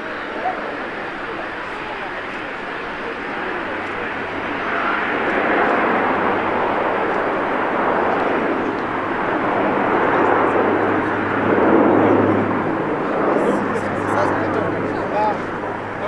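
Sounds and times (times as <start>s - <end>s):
aircraft engines rushing drone: 0.0s - 16.0s
low propeller hum: 0.0s - 16.0s.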